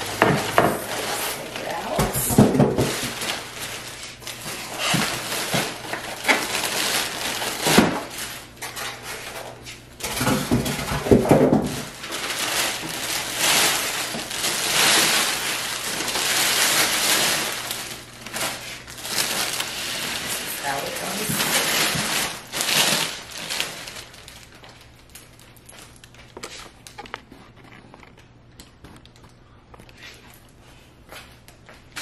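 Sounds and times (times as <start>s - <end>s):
plastic bag rustling: 0.0s - 29.3s.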